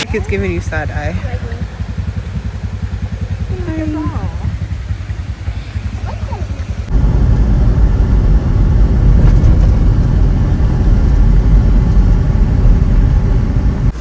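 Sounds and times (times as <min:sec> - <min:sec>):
atv engine rumbling: 0:00.0 - 0:14.0.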